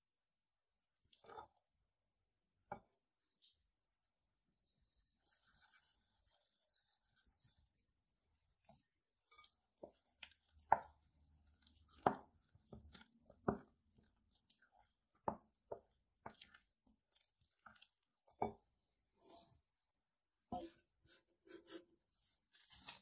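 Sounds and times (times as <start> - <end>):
spoon stirring thick batter: 0.9 - 1.8, 4.5 - 23.0.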